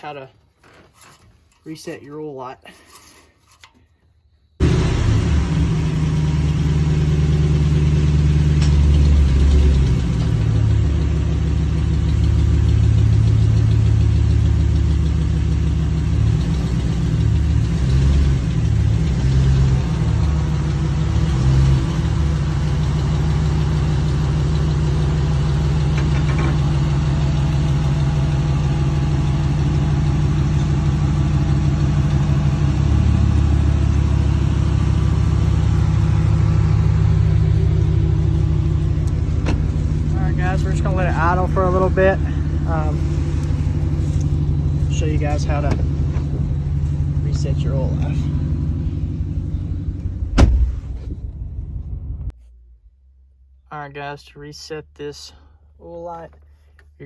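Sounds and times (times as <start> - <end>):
car engine idling: 4.6 - 57.0.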